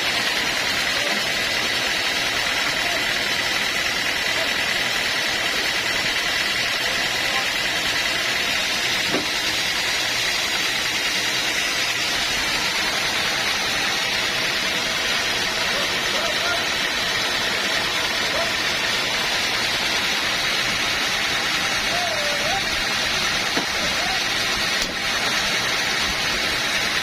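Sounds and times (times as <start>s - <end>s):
machine whining: 0.0s - 27.0s.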